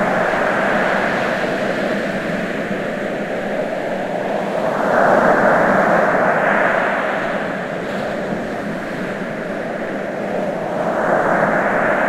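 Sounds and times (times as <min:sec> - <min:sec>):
ocean surf washing: 0:00.0 - 0:12.0.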